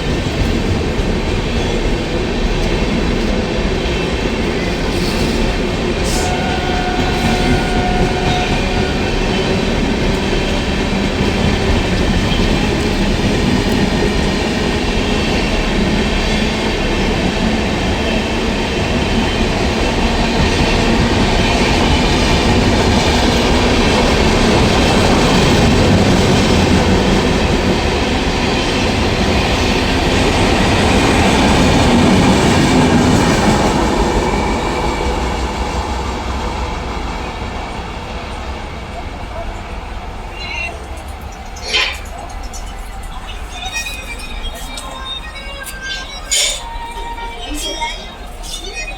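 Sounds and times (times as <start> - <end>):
train wheels clattering on track: 0.0 - 47.2.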